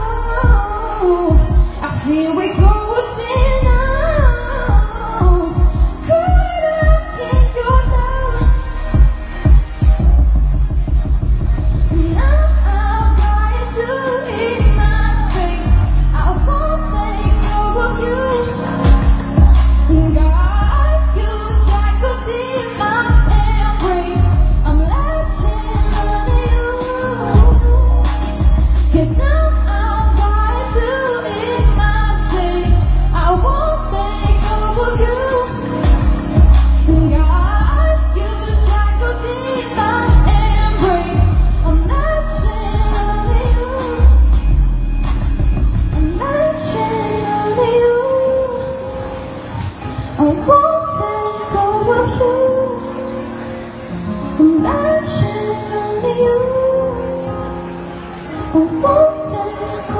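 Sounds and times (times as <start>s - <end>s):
woman singing into a microphone: 0.0s - 10.3s, 11.6s - 59.9s
pop backing track with heavy bass: 0.0s - 59.9s.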